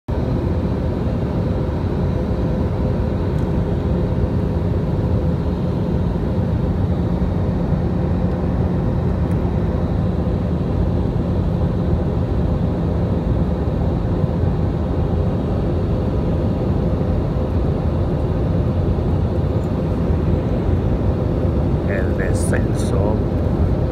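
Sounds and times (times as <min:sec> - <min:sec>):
jet engine and airflow rush: 0:00.1 - 0:23.9
low hum: 0:01.9 - 0:23.9.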